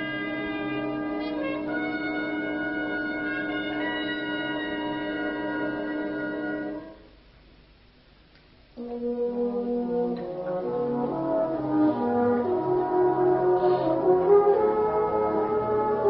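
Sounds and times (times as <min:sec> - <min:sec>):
brass band playing: 0:00.0 - 0:07.0, 0:08.8 - 0:16.0.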